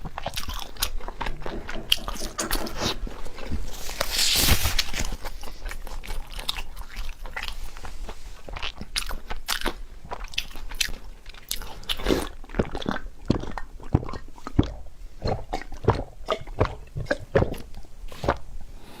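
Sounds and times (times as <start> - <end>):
person chewing crisp food: 0.0 - 19.0.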